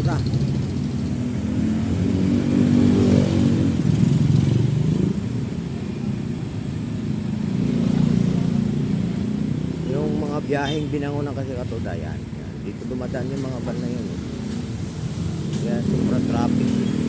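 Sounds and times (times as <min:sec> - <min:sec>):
motorcycle engine revving: 0:00.0 - 0:11.8, 0:12.7 - 0:17.0.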